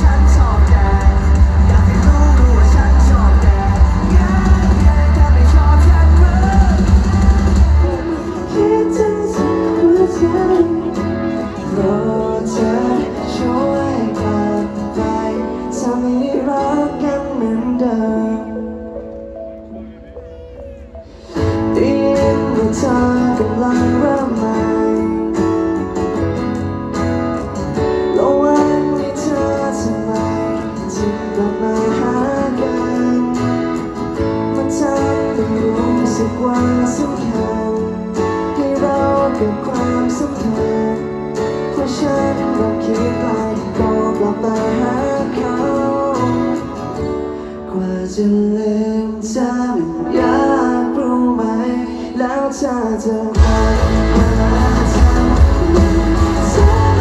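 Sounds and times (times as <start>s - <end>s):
live band playing: 0.0s - 48.4s, 49.0s - 57.0s
guitars: 0.0s - 57.0s
person singing: 0.0s - 57.0s.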